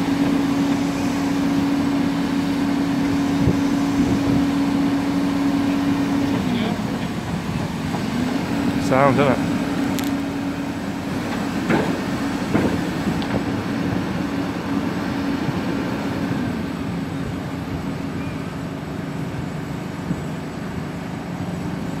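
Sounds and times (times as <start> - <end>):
excavator diesel engines running: 0.0 - 22.0.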